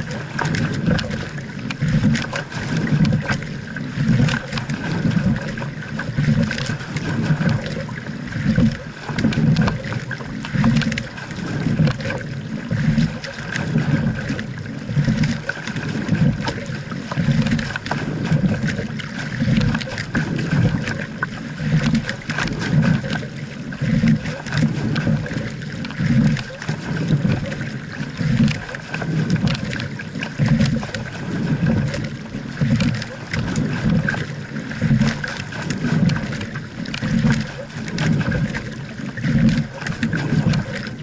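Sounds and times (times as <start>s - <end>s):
water rushing along hull: 0.0s - 41.0s.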